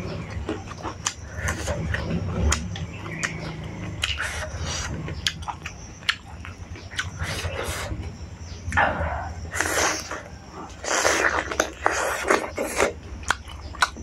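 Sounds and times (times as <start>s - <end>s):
low hum: 0.0s - 14.0s
person chewing food: 0.0s - 14.0s.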